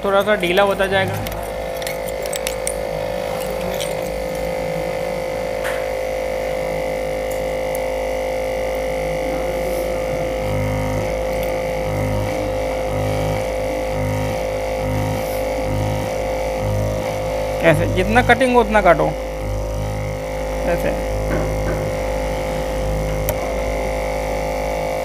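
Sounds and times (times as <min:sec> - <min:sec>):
droning hum: 0:00.0 - 0:25.0
low pulsing notes: 0:00.0 - 0:25.0.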